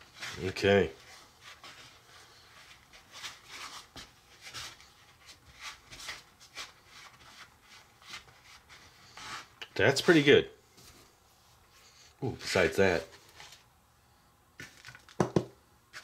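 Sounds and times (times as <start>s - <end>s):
dough being pressed and rubbed: 0.0s - 13.7s, 14.6s - 16.0s.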